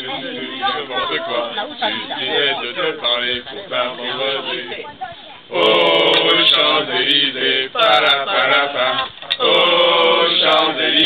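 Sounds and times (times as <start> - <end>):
boys singing unaccompanied chant: 0.0 - 11.0.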